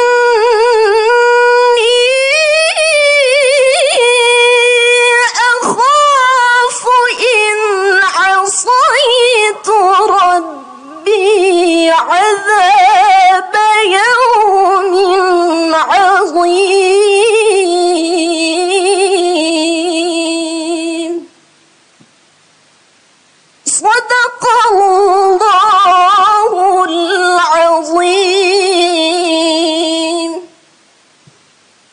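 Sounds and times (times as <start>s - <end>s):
girl reciting melodically: 0.0s - 21.5s, 23.6s - 30.6s.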